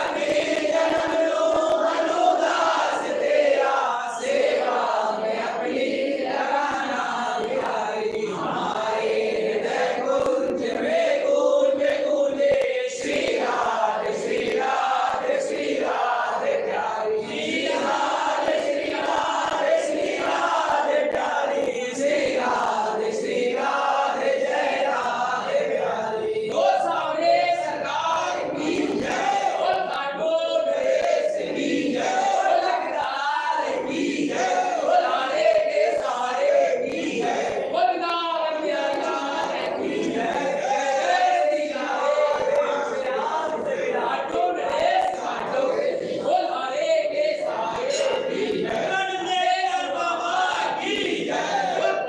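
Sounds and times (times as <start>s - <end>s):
crowd chanting a devotional song: 0.0s - 52.0s.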